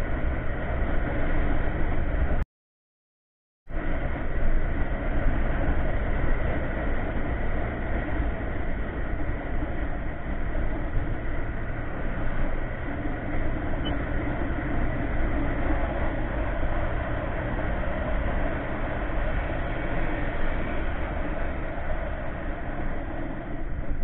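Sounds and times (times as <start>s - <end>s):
scooter engine and road noise: 0.0s - 2.4s, 3.7s - 24.0s
wind on microphone: 3.7s - 24.0s.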